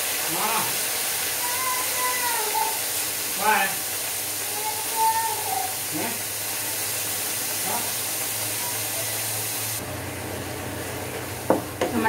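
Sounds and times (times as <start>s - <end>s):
tomatoes sizzling in hot fat: 0.0s - 12.0s.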